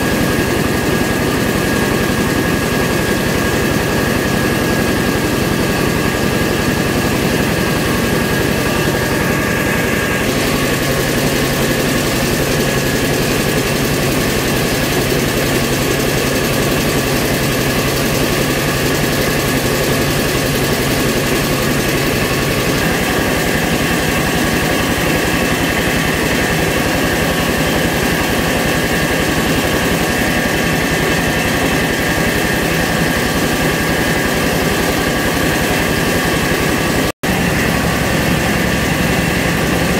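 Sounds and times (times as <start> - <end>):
rice mill machine humming: 0.0 - 39.9.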